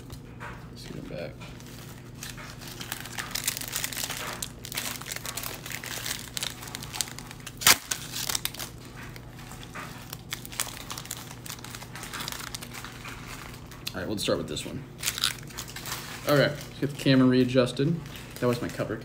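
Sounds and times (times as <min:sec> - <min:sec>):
foil wrapper crinkling: 0:01.5 - 0:19.0.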